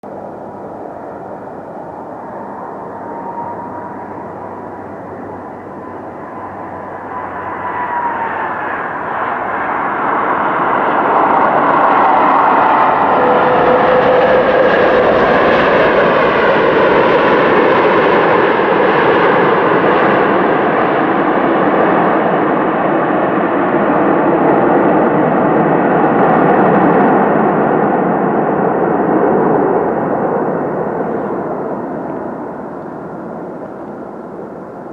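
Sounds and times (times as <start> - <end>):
airplane engine and air noise: 0.0 - 34.9
faint engine whine: 0.0 - 34.9.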